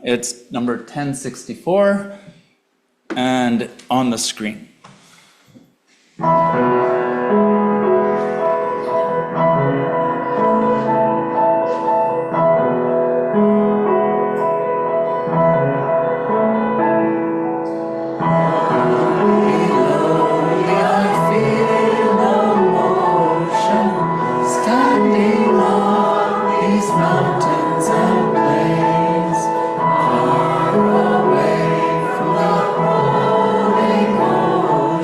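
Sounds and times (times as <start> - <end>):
piano playing hymn introduction: 6.2 - 35.0.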